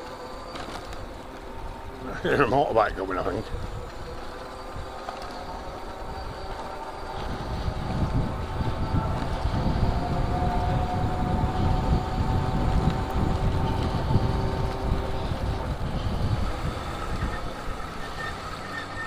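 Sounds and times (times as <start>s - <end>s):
distant motorbike engine drone: 0.0s - 19.0s
road noise from moving bike: 0.0s - 19.0s
wind rumble on microphone: 0.0s - 19.0s.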